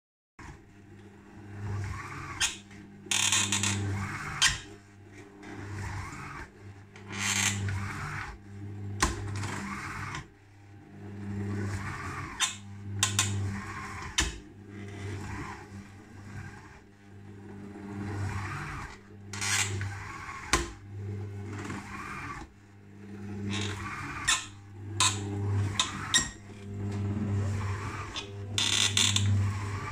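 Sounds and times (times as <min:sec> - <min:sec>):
kitchen machine humming: 0:00.4 - 0:29.9.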